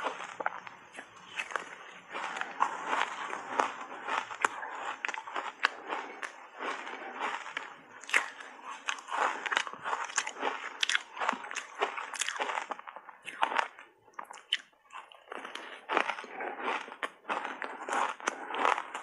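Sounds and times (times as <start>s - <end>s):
shaved ice crunching while chewed: 0.0s - 19.0s.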